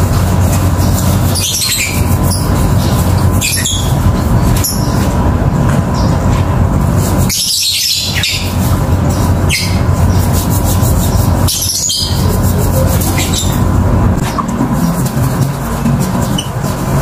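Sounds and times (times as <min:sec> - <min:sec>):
birdsong chirping: 0:00.5 - 0:06.4, 0:07.2 - 0:16.6.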